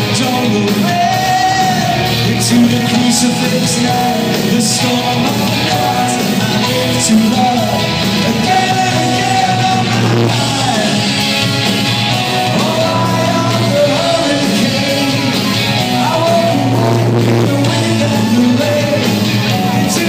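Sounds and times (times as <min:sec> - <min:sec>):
person singing: 0:00.0 - 0:20.0
rock band playing live: 0:00.0 - 0:20.0.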